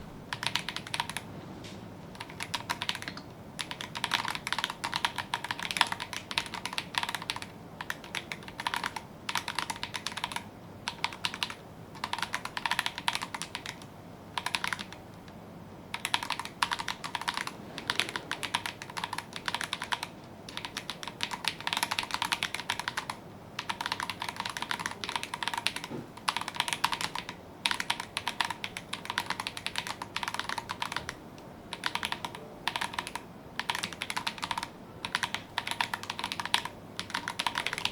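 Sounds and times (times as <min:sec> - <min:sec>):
mechanical keyboard typing: 0:00.0 - 0:01.3, 0:02.1 - 0:15.1, 0:15.9 - 0:37.9.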